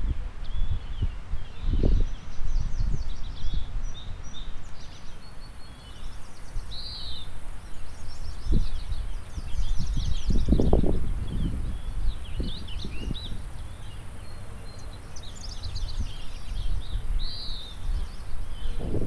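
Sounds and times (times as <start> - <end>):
wind buffeting microphone: 0.0 - 4.4, 8.1 - 19.0
songbirds singing: 0.4 - 19.0.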